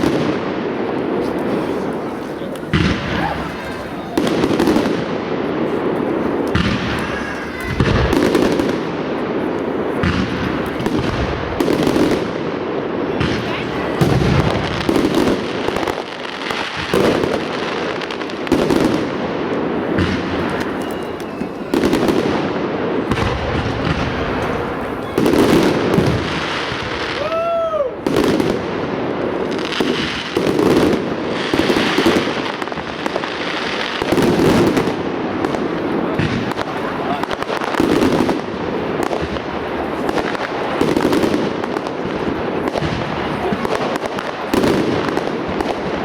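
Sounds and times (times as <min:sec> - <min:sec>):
fireworks launching and bursting: 0:00.0 - 0:46.0.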